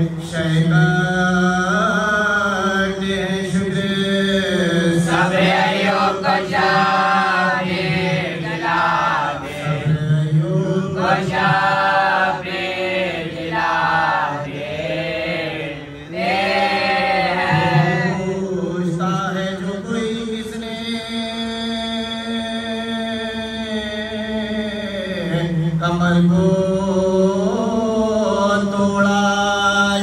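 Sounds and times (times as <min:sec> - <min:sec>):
voices chanting a lament: 0:00.0 - 0:30.0.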